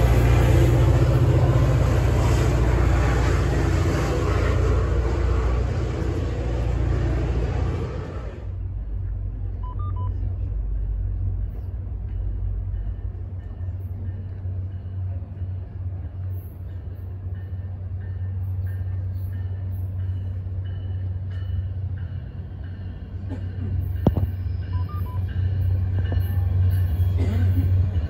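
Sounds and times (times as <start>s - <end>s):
distant diesel train rumble: 0.0s - 28.0s.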